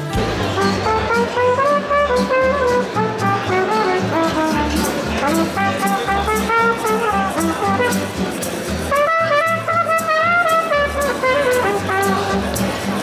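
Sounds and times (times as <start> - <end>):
trumpet melody: 0.0 - 12.8
guitar: 0.0 - 13.0
plucked double bass: 0.0 - 13.0
small jazz combo playing: 0.0 - 13.0.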